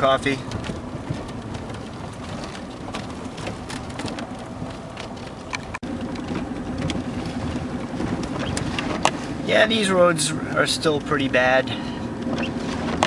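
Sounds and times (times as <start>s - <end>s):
engine and road noise: 0.0s - 13.0s.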